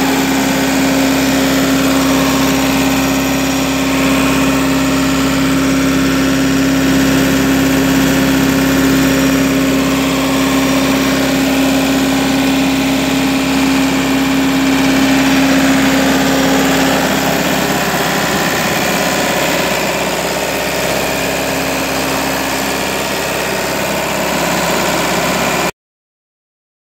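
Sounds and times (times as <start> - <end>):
diesel engine idling: 0.0 - 25.7
steady whine: 0.0 - 25.7.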